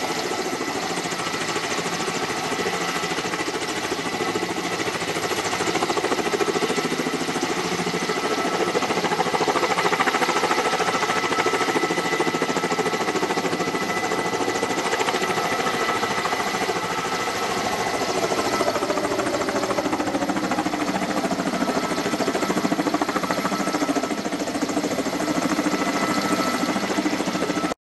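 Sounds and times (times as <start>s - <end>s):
helicopter rotor chop: 0.0s - 27.8s
high turbine whine: 0.0s - 27.8s.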